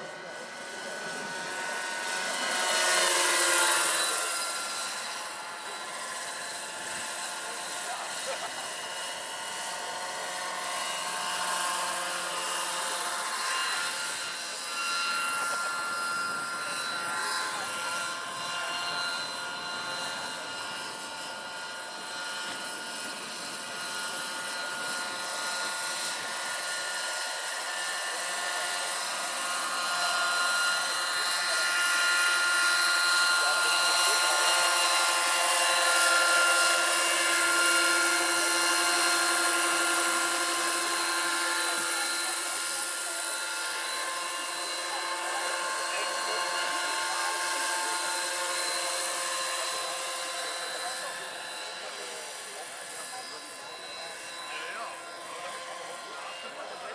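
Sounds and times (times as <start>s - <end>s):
model helicopter rotor whine: 0.0s - 56.9s.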